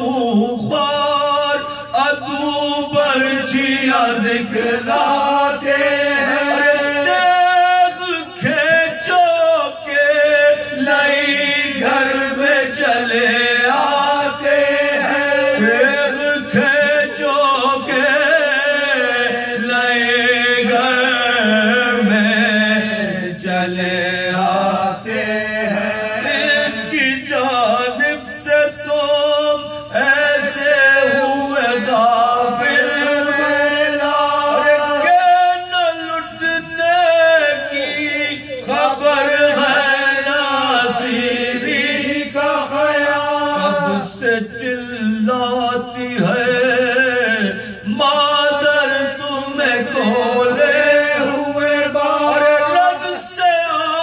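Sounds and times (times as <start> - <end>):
men chanting together: 0.0 - 54.0.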